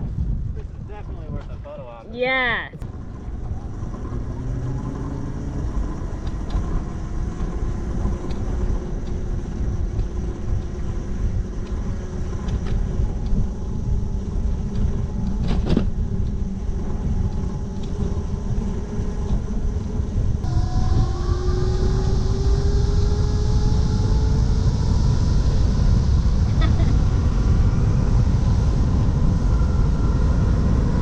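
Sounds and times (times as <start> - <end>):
wind rumble on microphone: 0.0 - 31.0
electric motor whine: 2.9 - 31.0.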